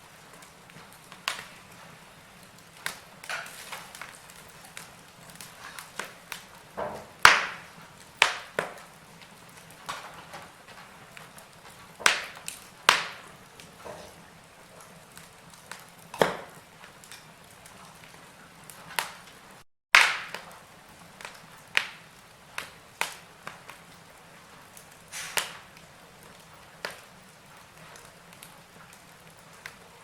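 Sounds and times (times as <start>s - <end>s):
fireplace fire crackling and popping: 0.0s - 30.0s.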